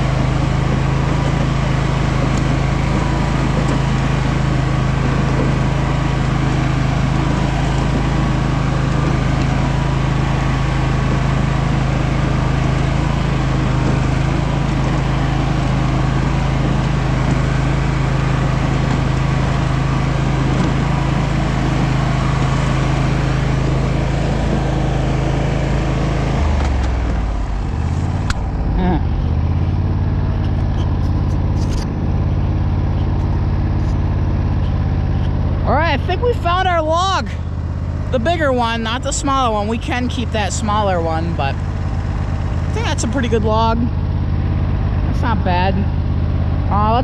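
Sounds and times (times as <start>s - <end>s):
lawn tractor engine running: 0.0s - 47.0s.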